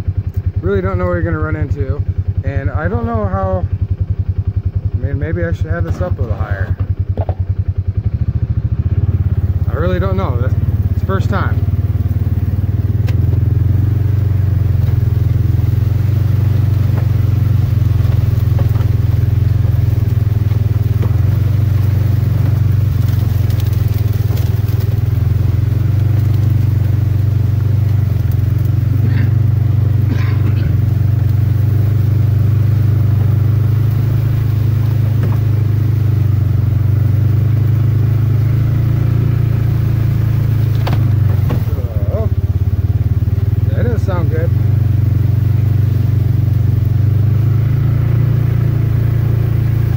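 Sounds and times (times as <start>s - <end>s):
utility vehicle engine drone: 0.0s - 49.9s
vehicle driving through weeds: 8.1s - 49.9s.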